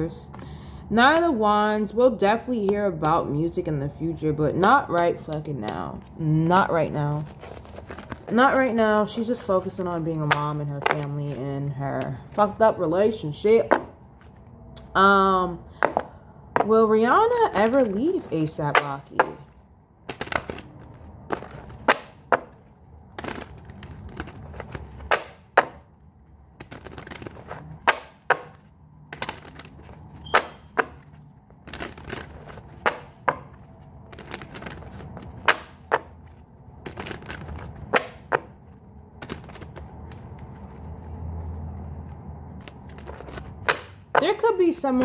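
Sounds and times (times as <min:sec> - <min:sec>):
cards being shuffled: 0:04.6 - 0:14.9, 0:15.8 - 0:45.0.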